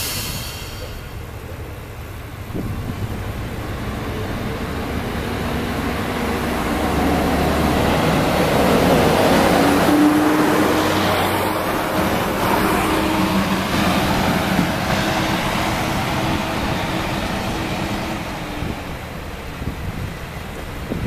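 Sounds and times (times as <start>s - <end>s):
diesel railcar passing: 0.0s - 21.0s.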